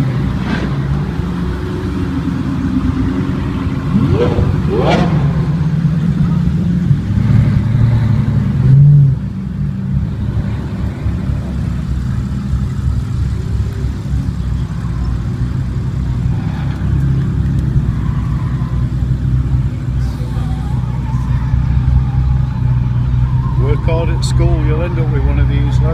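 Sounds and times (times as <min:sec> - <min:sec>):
sports car engines at low revs: 0:00.0 - 0:25.9.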